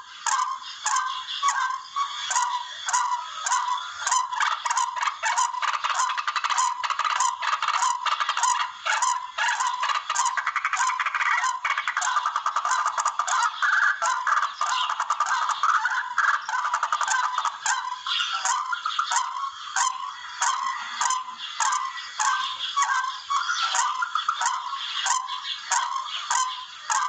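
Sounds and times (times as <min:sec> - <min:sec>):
rail bird calls: 0:00.0 - 0:27.0.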